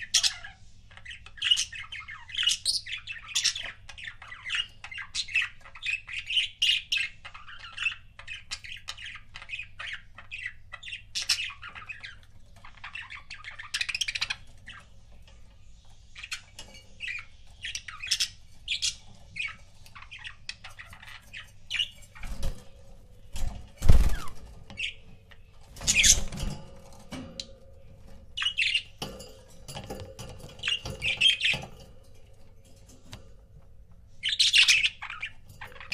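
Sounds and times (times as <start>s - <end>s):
budgerigars chirping: 0.0s - 26.6s, 27.4s - 32.3s, 34.1s - 35.9s.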